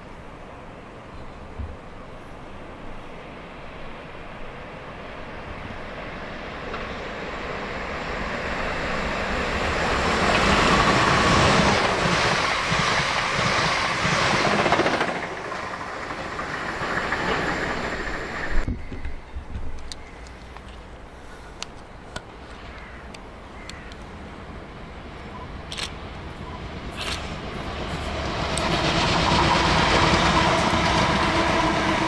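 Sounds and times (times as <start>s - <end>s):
passenger train passing at speed: 0.0s - 32.0s.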